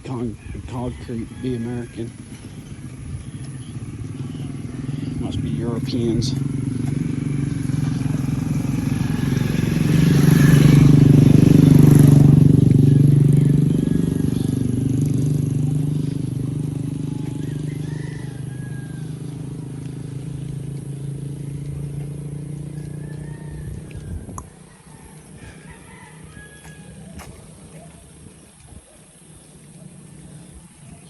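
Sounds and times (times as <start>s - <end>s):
motor vehicle passing: 0.0s - 31.0s.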